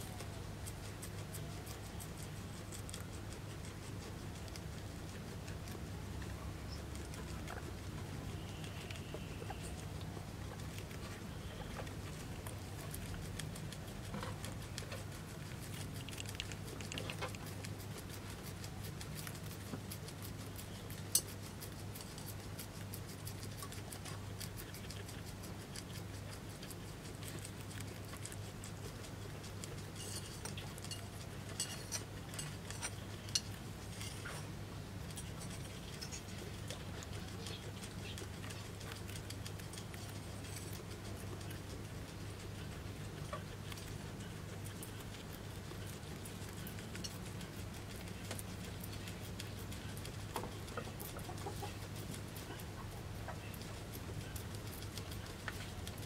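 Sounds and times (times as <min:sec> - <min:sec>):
guinea pig nibbling leaves: 0:00.0 - 0:56.0
steady low hum: 0:00.0 - 0:56.0.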